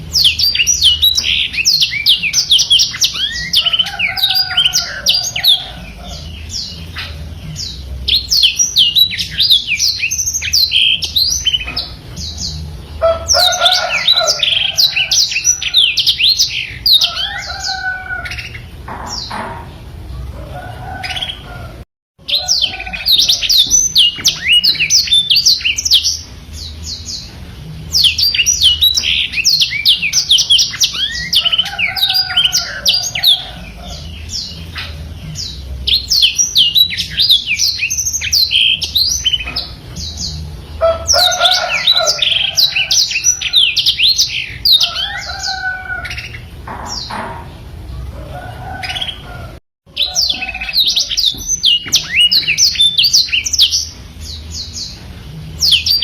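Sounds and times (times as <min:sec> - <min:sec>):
canary singing chirps and trills: 0:00.0 - 0:56.0.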